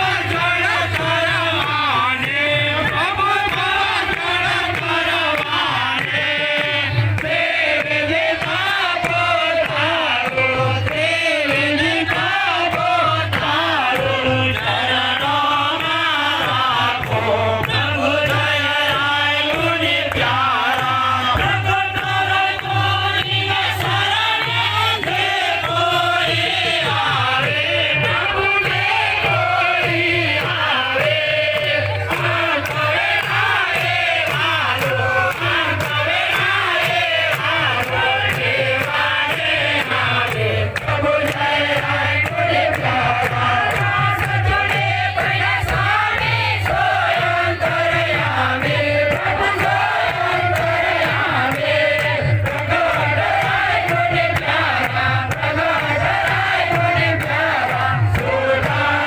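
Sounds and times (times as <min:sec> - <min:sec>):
many voices chanting a hymn: 0:00.0 - 0:59.0.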